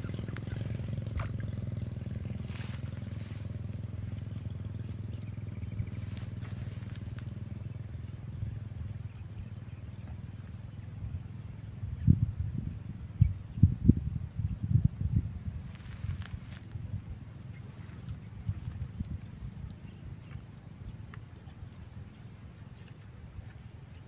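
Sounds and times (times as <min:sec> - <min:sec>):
small engine running: 0:00.0 - 0:11.8, 0:15.5 - 0:24.0.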